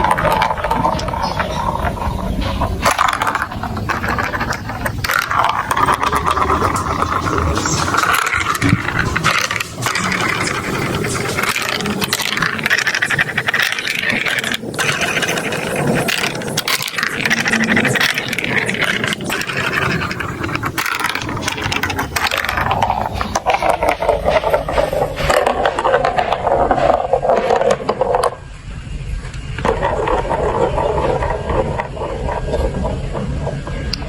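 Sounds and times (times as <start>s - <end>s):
marbles clattering down plastic track: 0.0s - 28.5s, 29.6s - 34.0s.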